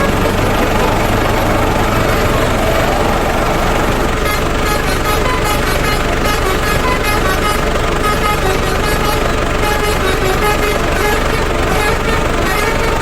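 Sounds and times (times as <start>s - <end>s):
engine rumble: 0.0s - 13.0s
multi-tone truck horn melody: 0.0s - 13.0s.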